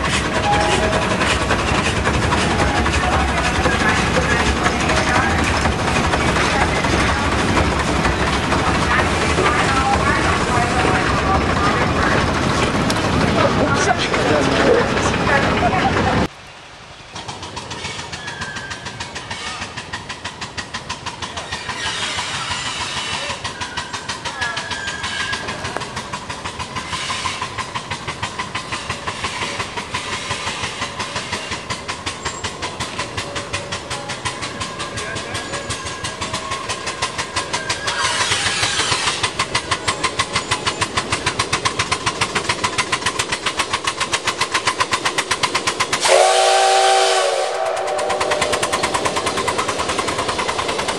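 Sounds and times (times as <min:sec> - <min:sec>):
steam locomotive exhaust chuffing: 0:00.0 - 0:16.3, 0:17.1 - 0:50.9.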